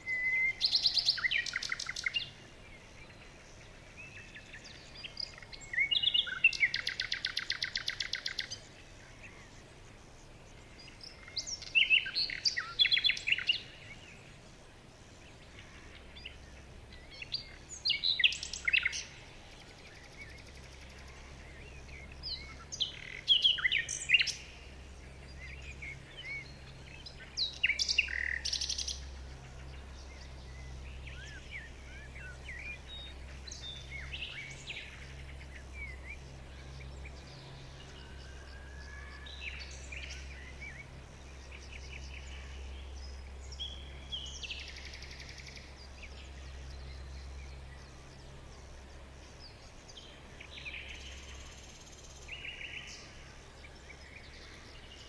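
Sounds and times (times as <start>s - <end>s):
wild birds chirping: 0.0s - 55.0s
steady low hum: 8.4s - 55.0s.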